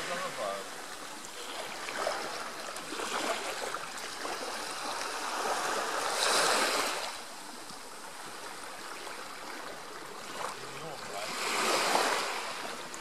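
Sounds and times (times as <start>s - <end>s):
waves lapping on sandy shore: 0.0s - 13.0s.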